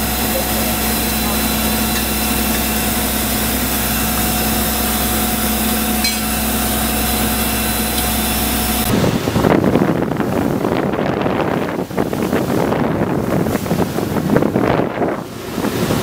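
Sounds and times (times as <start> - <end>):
boat engine humming: 0.0 - 16.0
wind buffeting microphone: 0.0 - 16.0.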